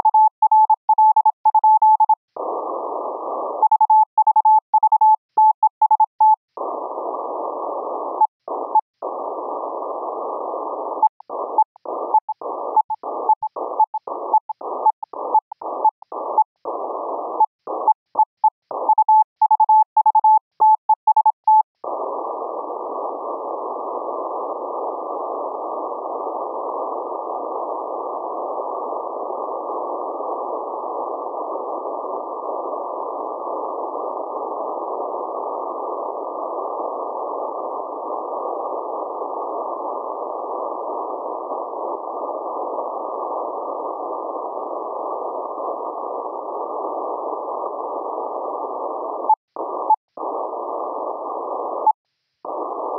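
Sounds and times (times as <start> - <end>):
filtered radio hiss: 0.0 - 52.9.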